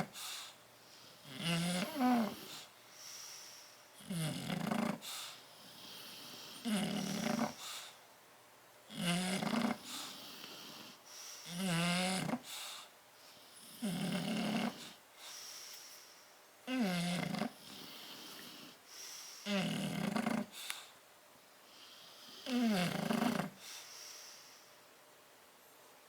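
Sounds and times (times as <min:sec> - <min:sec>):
dog snoring: 0:00.0 - 0:08.0, 0:08.9 - 0:15.4, 0:16.7 - 0:20.9, 0:21.7 - 0:24.7.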